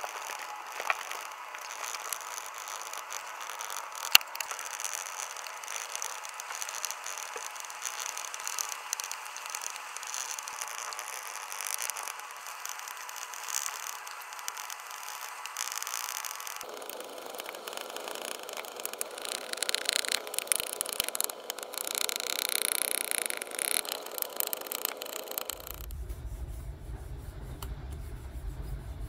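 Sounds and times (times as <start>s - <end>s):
small clicks: 0.0s - 25.9s.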